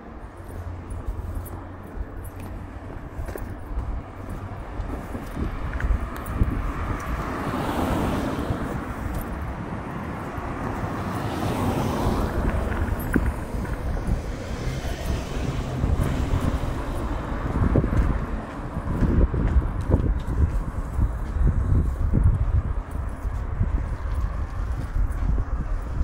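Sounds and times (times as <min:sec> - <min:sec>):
street traffic: 0:00.0 - 0:26.0
wind rumbling on microphone: 0:00.0 - 0:26.0.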